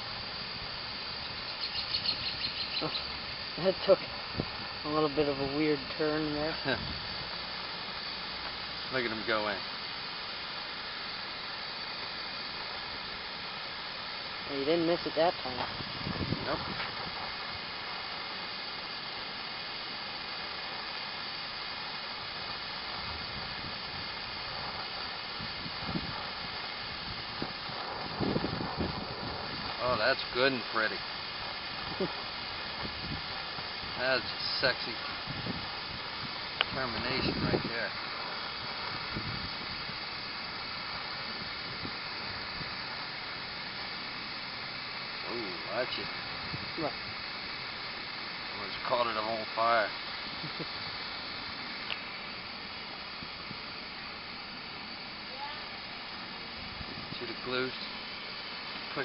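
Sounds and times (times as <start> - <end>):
torch flame hissing: 0.0 - 59.0.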